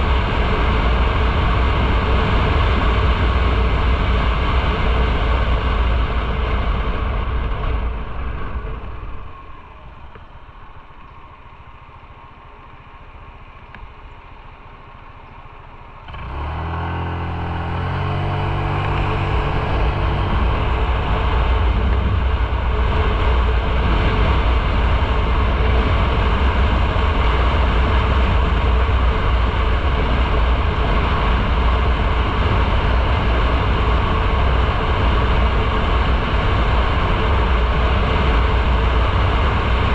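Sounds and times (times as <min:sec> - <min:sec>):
wind on microphone: 0:00.0 - 0:11.4, 0:16.1 - 0:39.9
motorcycle engine: 0:00.0 - 0:39.9.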